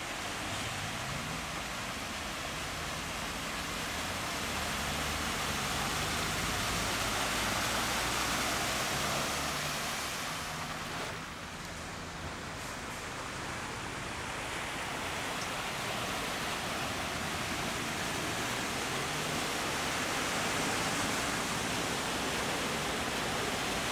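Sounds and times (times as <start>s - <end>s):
low engine hum: 0.0s - 23.9s
tyres splashing through water: 0.0s - 23.9s.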